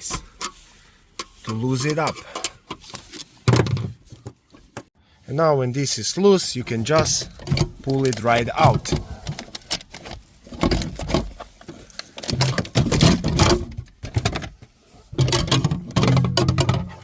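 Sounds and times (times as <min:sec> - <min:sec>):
plastic and metal parts rattling: 0:00.0 - 0:04.9, 0:06.7 - 0:17.0.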